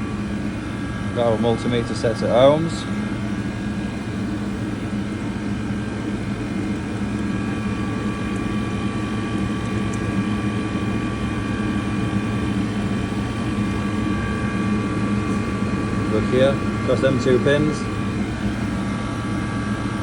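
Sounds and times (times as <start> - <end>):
machinery drone: 0.0 - 20.0.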